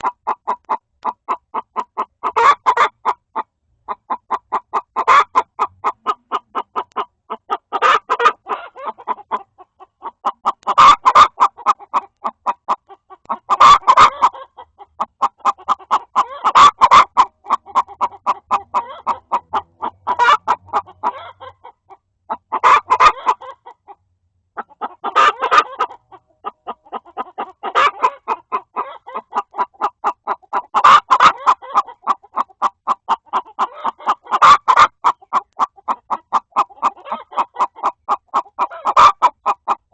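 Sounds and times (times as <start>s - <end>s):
hens clucking: 0.0s - 39.9s
loud hen call: 1.8s - 3.2s, 4.5s - 14.7s, 15.4s - 23.8s, 24.6s - 39.8s.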